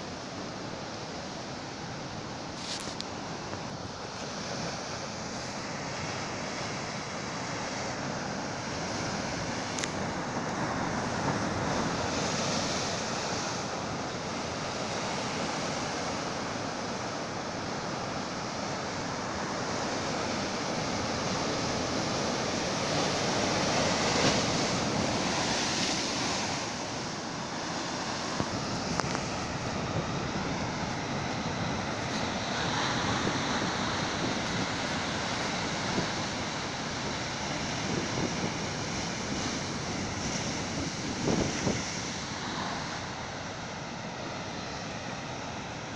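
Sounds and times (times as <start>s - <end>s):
surf crashing on rocks: 0.1s - 45.9s.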